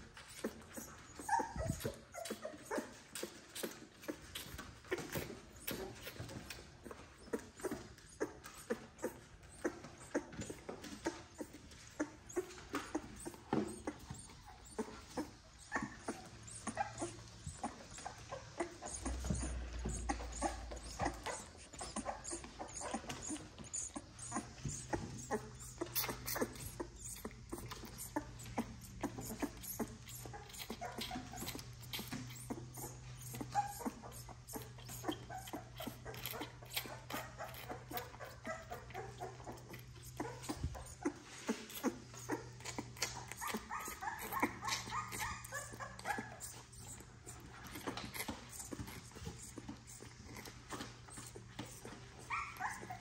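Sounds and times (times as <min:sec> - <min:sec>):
puppy suckling from bottle: 0:00.0 - 0:53.0
puppy whimpers: 0:00.1 - 0:53.0.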